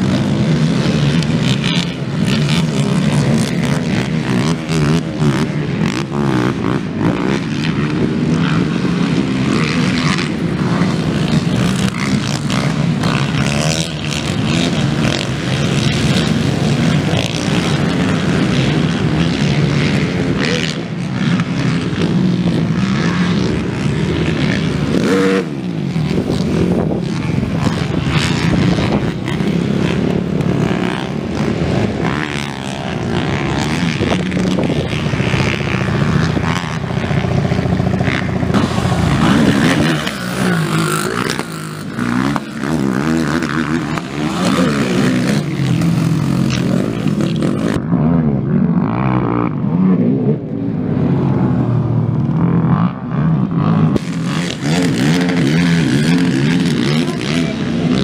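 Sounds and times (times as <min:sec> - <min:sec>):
quad engines revving: 0:00.0 - 0:58.0.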